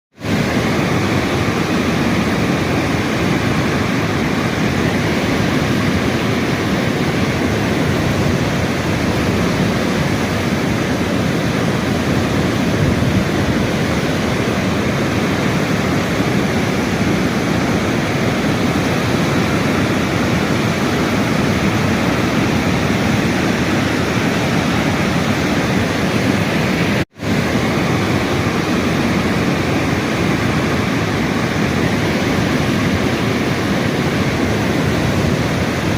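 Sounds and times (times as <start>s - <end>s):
rush of flowing water: 0.1s - 35.9s.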